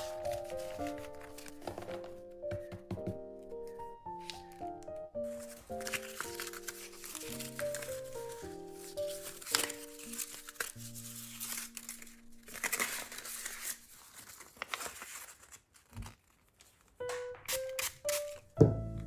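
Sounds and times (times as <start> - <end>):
light background music: 0.0 - 14.0, 17.0 - 19.0
paper crinkling and rustling: 0.0 - 18.6.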